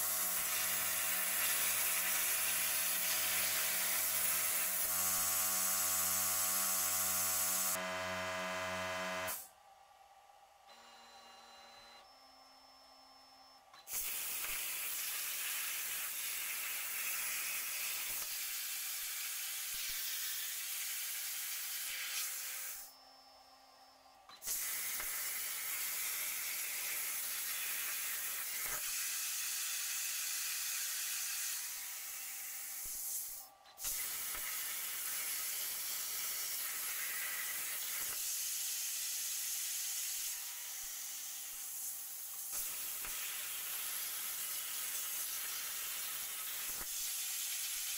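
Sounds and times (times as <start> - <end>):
plasma torch hissing: 0.0 - 7.8, 9.2 - 9.5, 13.9 - 22.9, 24.4 - 47.9.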